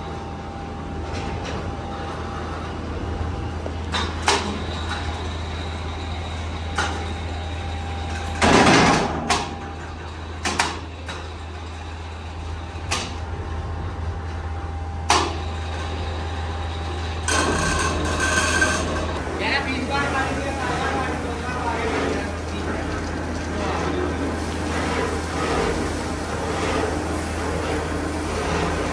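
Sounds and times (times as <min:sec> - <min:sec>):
factory machinery humming: 0:00.0 - 0:28.9.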